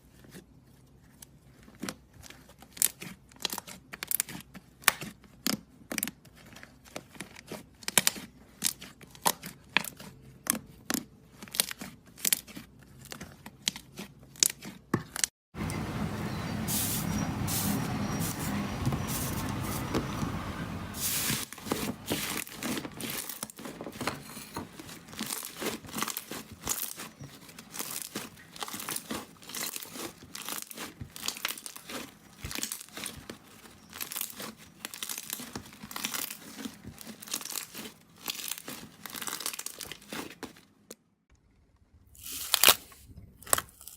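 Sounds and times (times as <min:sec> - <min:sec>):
slime crust crackling and crunching: 0:00.1 - 0:15.2, 0:20.9 - 0:24.0, 0:24.6 - 0:40.8, 0:42.2 - 0:43.9.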